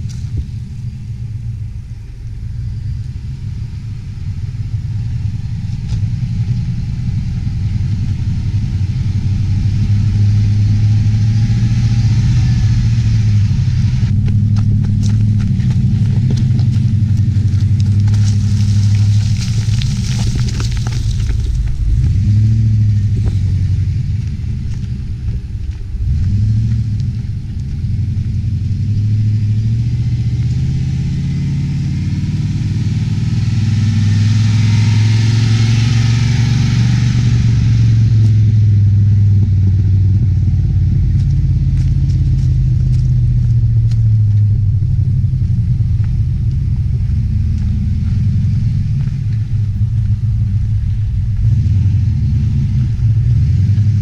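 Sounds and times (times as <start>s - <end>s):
off-road vehicle engine: 0.0s - 54.0s
tyres crunching over gravel: 0.0s - 54.0s.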